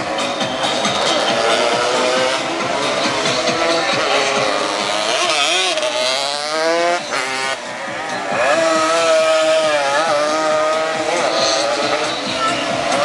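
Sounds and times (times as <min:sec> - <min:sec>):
racing motorcycles at high revs: 0:00.0 - 0:13.0.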